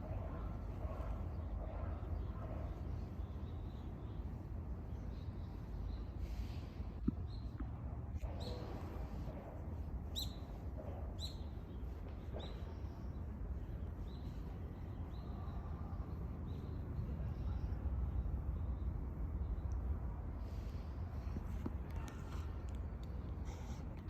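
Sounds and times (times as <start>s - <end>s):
low background rumble: 0.0s - 24.0s
small birds chirping: 0.0s - 24.0s.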